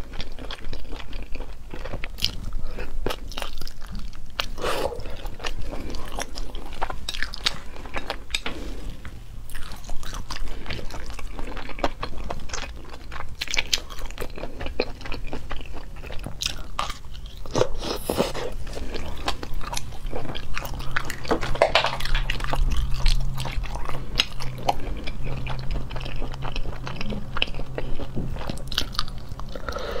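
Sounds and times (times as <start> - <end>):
person chewing shellfish: 0.0 - 30.0.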